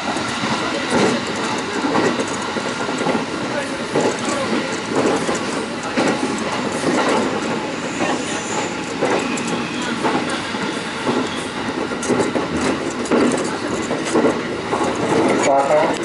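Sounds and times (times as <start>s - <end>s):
rail clacks: 0.0s - 16.0s
train passing alongside: 0.0s - 16.0s
train wheels rumbling on rail: 0.0s - 16.0s.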